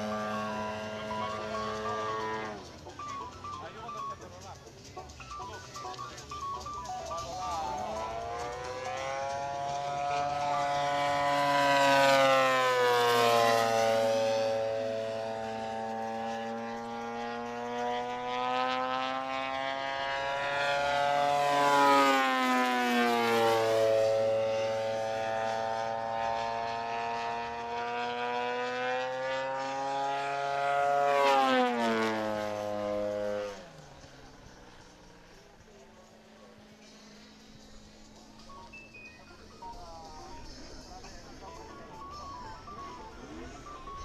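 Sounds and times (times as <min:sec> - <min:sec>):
model airplane engine: 0:00.0 - 0:44.0.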